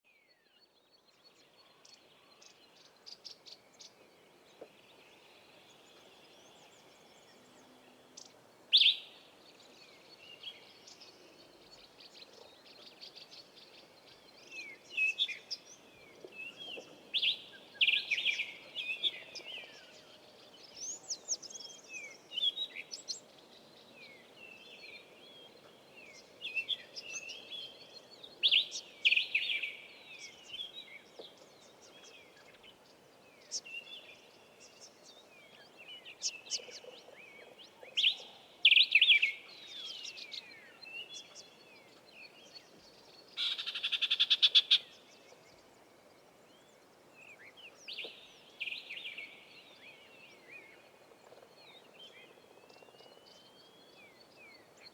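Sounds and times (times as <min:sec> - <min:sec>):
wild birds chirping and singing: 0:00.1 - 0:54.9.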